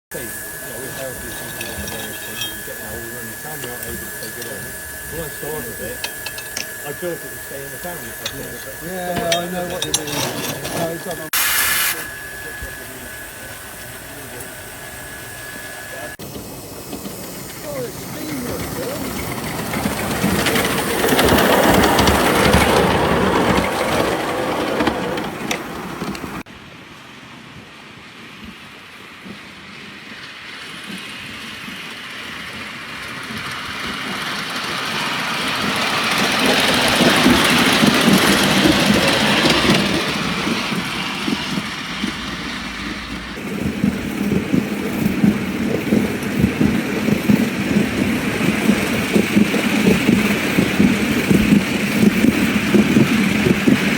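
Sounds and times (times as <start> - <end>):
steam locomotive passing: 0.1 - 53.9.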